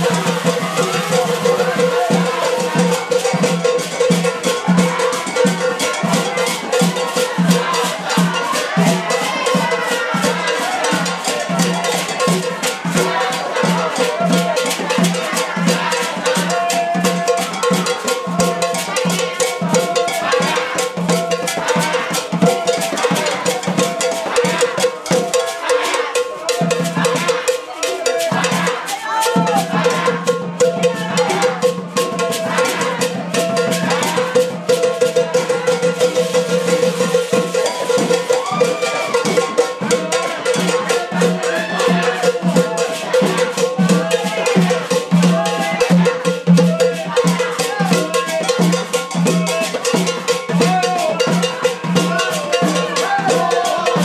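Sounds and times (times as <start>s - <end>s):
fast dense drumming: 0.0s - 54.0s.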